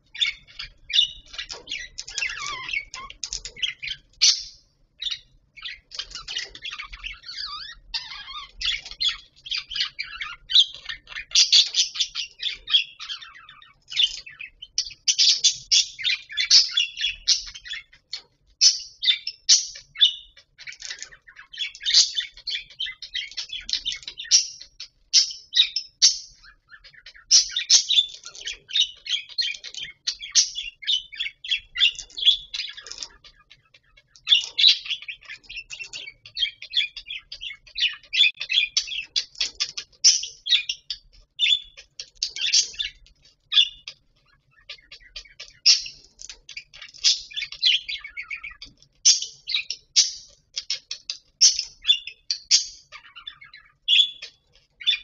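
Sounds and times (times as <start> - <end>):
budgerigars chirping and warbling: 0.0 - 55.0.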